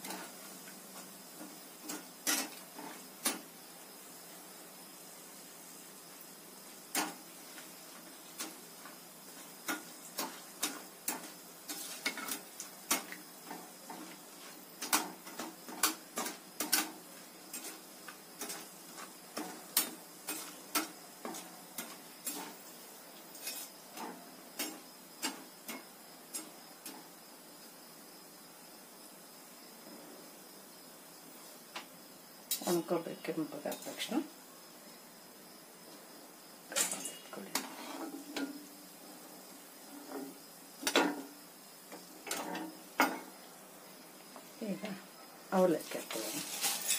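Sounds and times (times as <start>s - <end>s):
oil frying hiss: 0.0s - 46.9s.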